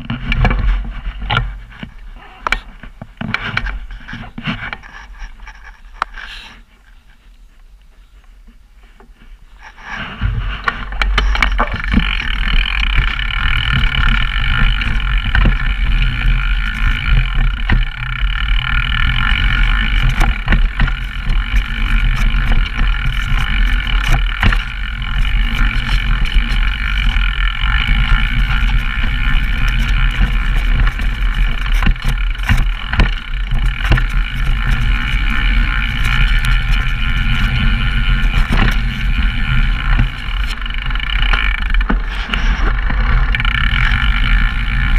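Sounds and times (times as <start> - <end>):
bike rattling over bumps: 0.0 - 6.5, 8.4 - 44.9
low wind rumble: 0.0 - 44.9.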